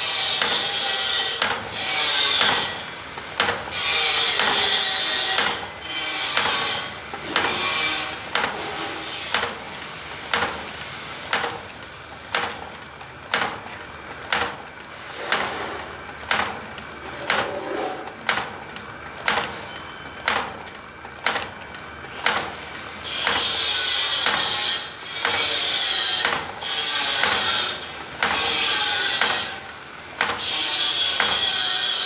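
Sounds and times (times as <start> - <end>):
machine clacking rhythmically: 0.0 - 32.0
machine rattle: 0.3 - 32.0.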